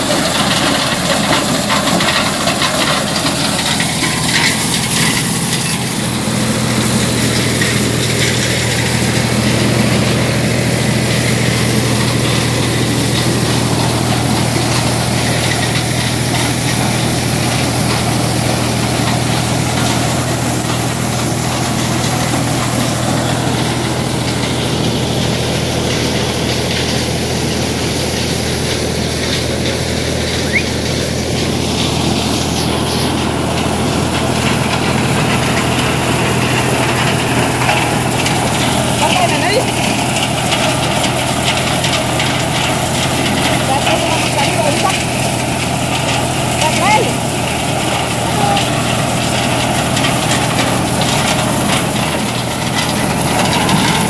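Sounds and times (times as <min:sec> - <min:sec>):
corn sheller running: 0:00.0 - 0:54.0
tractor engine hum: 0:00.0 - 0:54.0.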